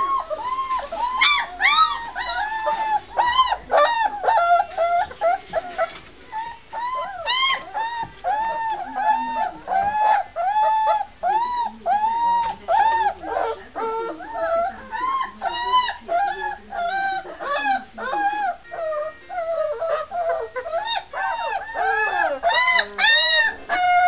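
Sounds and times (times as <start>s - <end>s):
puppies whining: 0.0s - 24.0s.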